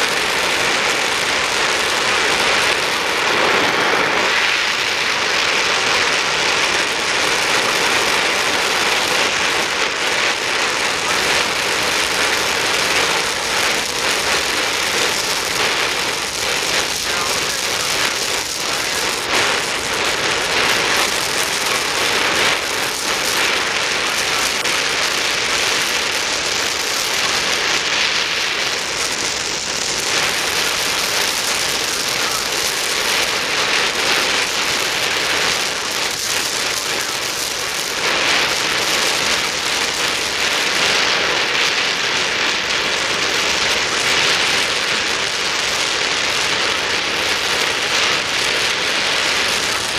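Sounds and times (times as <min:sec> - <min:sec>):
welding torch hissing: 0:00.0 - 0:49.9.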